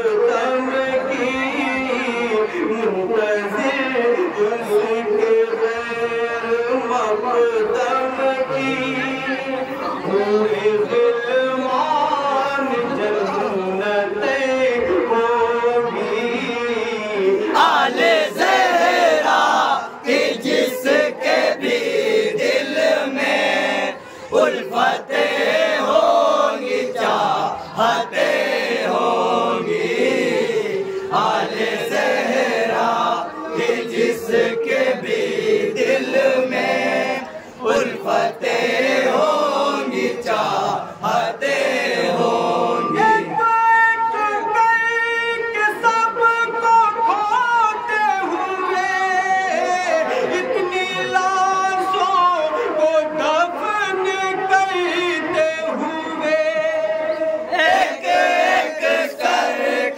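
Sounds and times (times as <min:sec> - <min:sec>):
man chanting: 0:00.0 - 0:40.6, 0:41.4 - 0:57.4.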